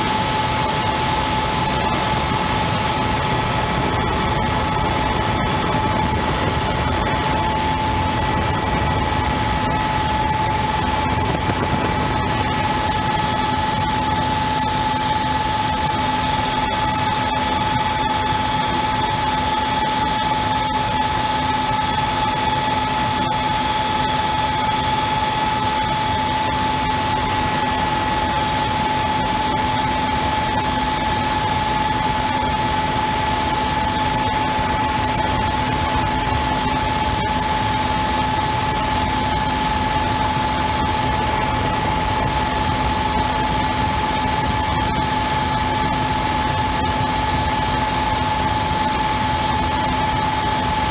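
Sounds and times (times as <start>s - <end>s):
helicopter engines and rotor: 0.0s - 50.9s.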